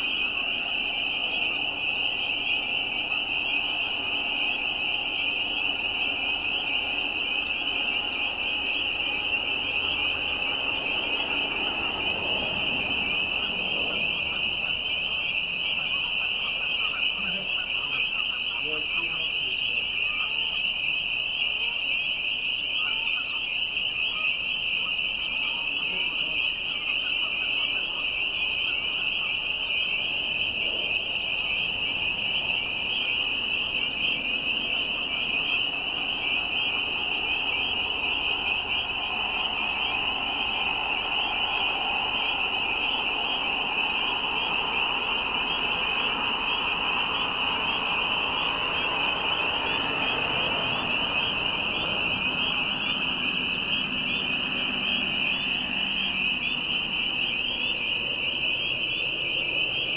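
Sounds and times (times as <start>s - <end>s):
chorus of spring peepers: 0.0s - 59.9s.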